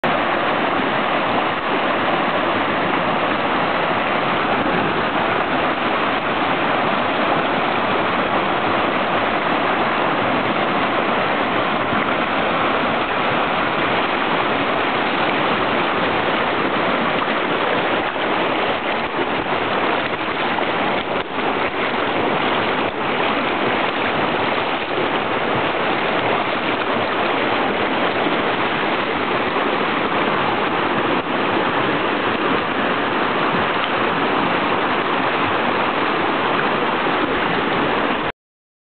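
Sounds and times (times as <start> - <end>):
stream rushing over stones: 0.0 - 38.3.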